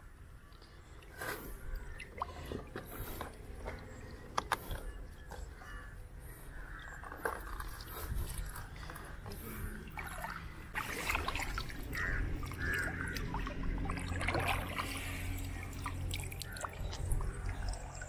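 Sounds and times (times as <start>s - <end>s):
shallow water splashing and dripping: 0.5s - 4.8s, 6.7s - 18.0s.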